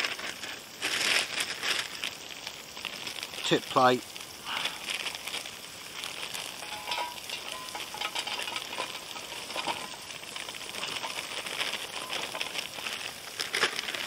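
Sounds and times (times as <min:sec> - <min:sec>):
fat sizzling in a frying pan: 0:00.0 - 0:14.0.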